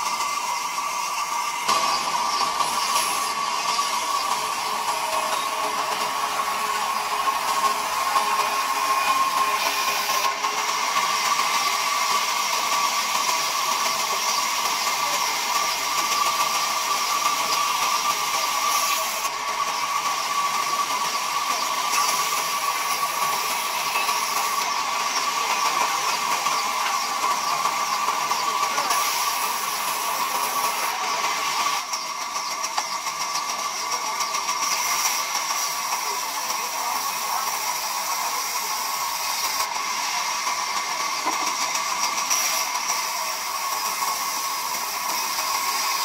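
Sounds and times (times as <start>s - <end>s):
band saw cutting timber: 0.0s - 46.0s.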